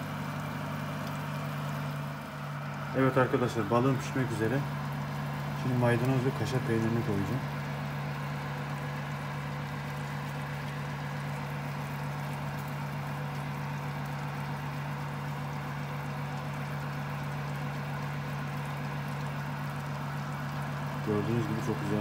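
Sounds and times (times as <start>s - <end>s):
oven fan humming: 0.0s - 22.0s.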